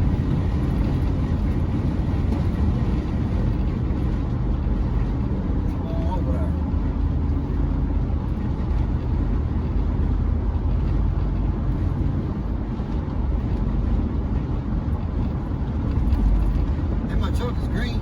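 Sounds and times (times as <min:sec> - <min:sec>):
engine rumble inside vehicle: 0:00.0 - 0:18.0.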